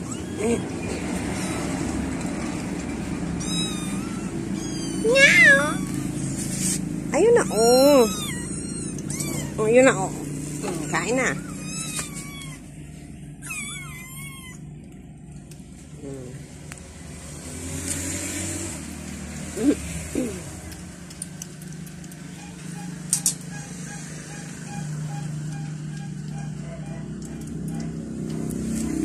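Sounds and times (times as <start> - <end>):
motor vehicle passing: 0.0 - 29.0.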